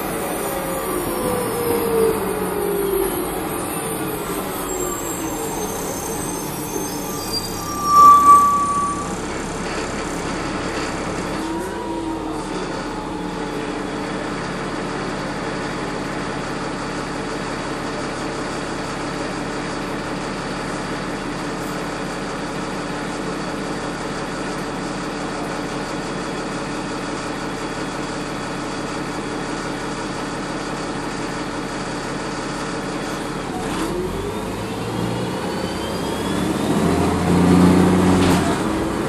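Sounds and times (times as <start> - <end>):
bus diesel engine idling: 0.0 - 7.1, 9.1 - 36.3.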